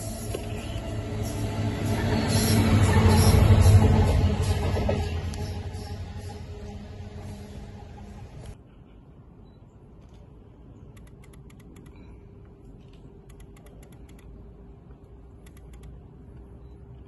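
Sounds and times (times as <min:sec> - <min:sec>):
distant train rumble and hum: 0:00.0 - 0:17.0.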